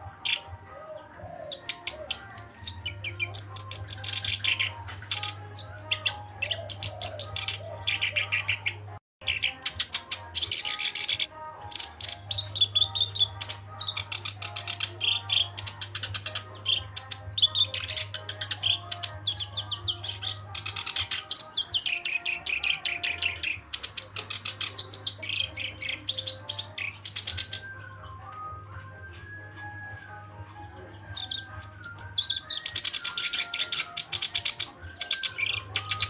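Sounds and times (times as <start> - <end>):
warbler singing: 0.0 - 36.0.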